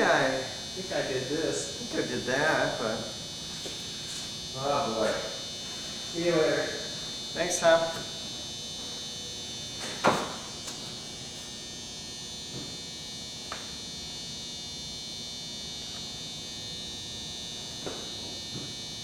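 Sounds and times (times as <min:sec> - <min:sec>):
high-pitched electrical buzz: 0:00.0 - 0:19.0.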